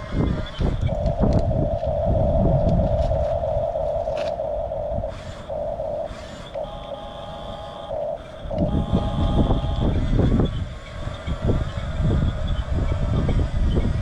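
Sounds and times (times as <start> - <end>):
toy bulldozer motor whine: 0.0 - 14.0.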